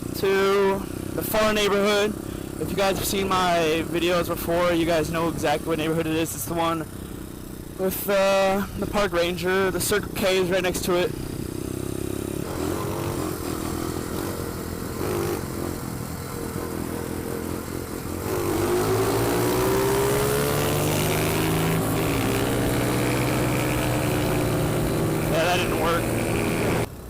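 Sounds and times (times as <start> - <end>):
small motorbike engine revving: 0.0 - 27.0.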